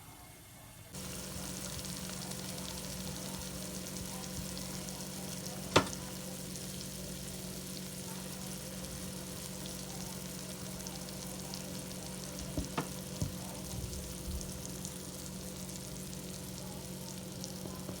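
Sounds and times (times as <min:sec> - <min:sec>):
food sizzling in oil in a pan: 0:00.9 - 0:18.0.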